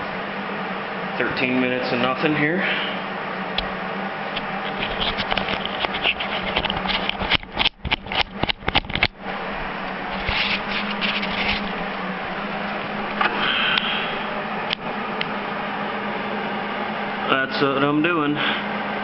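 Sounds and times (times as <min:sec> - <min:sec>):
welder arc crackling and buzzing: 0:00.0 - 0:19.0.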